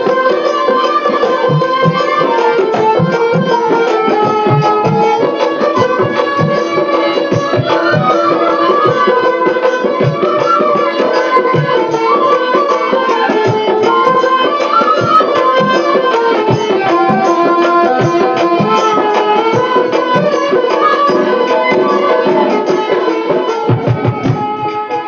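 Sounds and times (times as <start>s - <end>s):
hand drum strokes: 0.0s - 25.0s
melody instrument playing folk tune: 0.0s - 25.0s.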